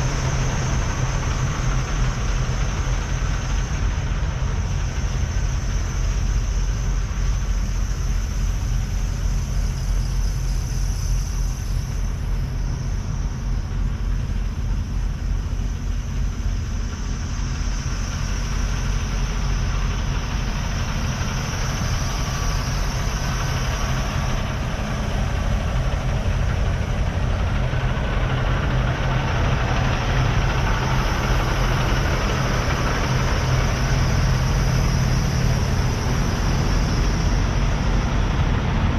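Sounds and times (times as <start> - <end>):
diesel engines idling: 0.0 - 38.9.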